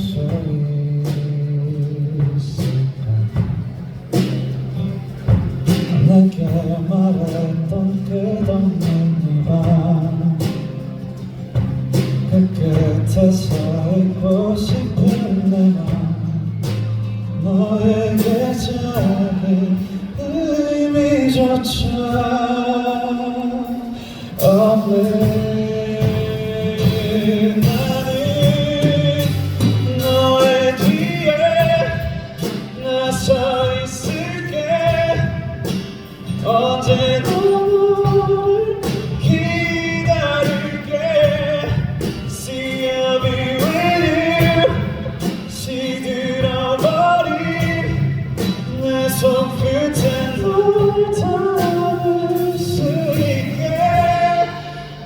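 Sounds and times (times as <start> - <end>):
man singing a slow song: 0.0 - 3.6, 5.7 - 55.0
instrumental backing music: 0.0 - 55.0.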